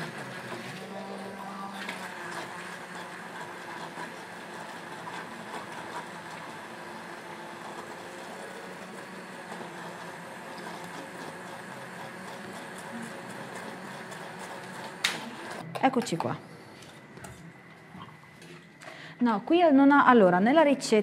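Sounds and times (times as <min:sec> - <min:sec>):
immersion blender running: 0:00.0 - 0:17.4.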